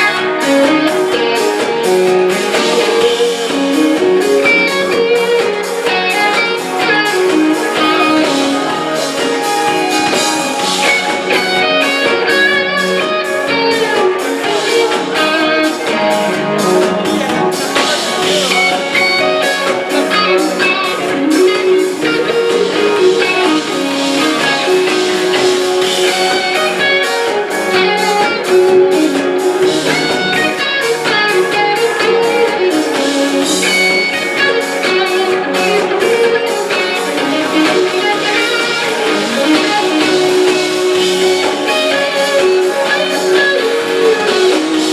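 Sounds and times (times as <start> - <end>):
electric guitar: 0.0 - 44.9
live rock band playing: 0.0 - 44.9
steady drum beat: 0.0 - 44.9.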